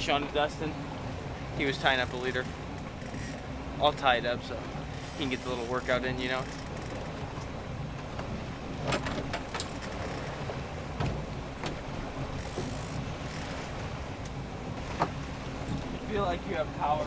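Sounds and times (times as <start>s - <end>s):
boat engine running: 0.0s - 17.0s
water noise: 0.0s - 17.0s.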